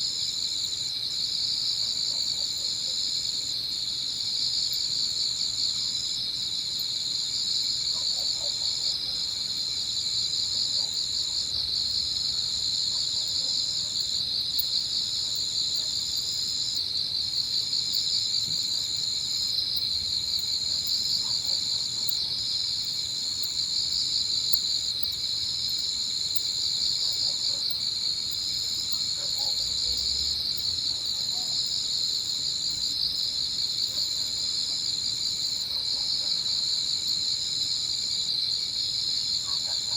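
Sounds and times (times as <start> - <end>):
crickets and insects chorus: 0.0 - 39.9.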